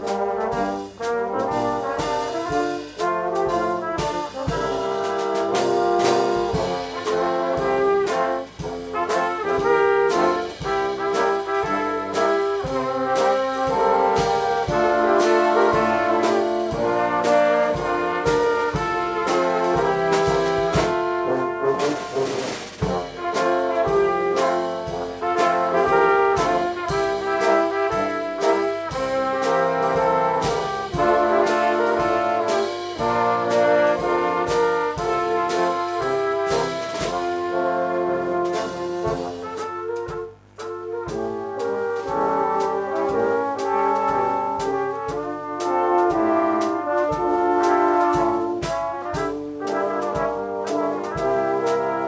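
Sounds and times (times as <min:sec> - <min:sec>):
brass band playing a tune: 0:00.0 - 0:52.0
drum kit steady beat: 0:00.0 - 0:52.0.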